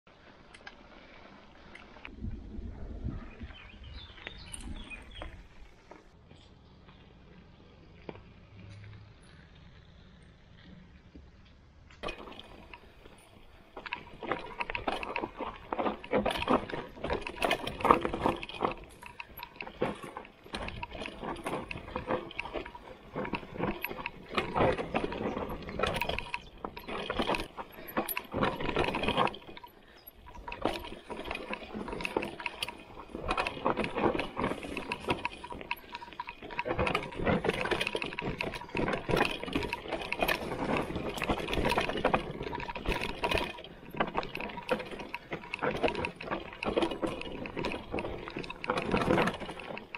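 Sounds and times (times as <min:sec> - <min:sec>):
bike tyres crunching over dirt: 0:00.1 - 0:49.9
bike rattling and clattering: 0:03.2 - 0:49.9.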